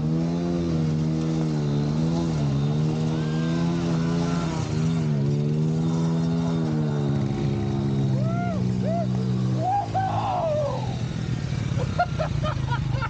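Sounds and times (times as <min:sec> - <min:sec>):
small motorcycle engine revving: 0:00.0 - 0:13.0.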